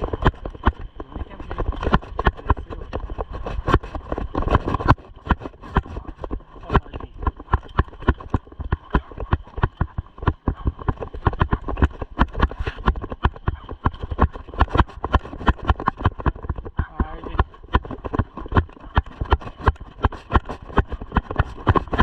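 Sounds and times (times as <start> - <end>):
bike clattering and rattling: 0.0 - 22.0.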